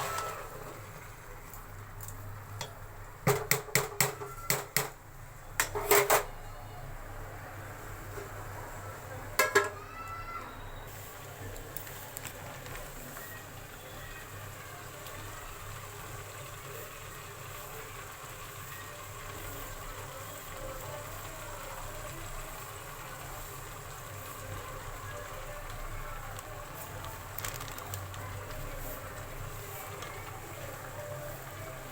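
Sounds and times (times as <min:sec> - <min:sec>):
food sizzling in a pot: 0:00.0 - 0:31.9.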